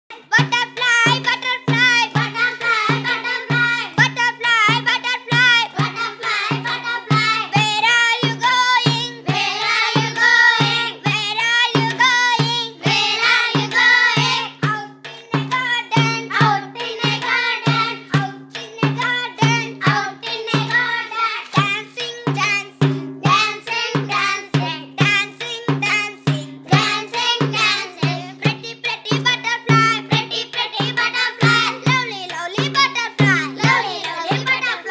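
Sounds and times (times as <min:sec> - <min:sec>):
bouncing bass beat: 0:00.2 - 0:20.8, 0:21.5 - 0:34.9
young voices singing: 0:00.2 - 0:34.9.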